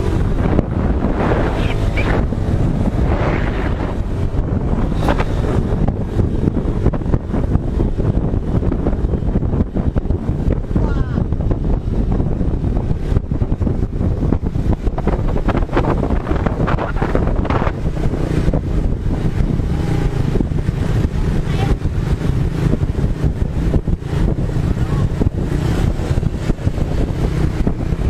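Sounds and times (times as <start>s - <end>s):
motorbike engine and road rumble: 0.0s - 28.0s
wind buffeting microphone: 0.0s - 28.0s.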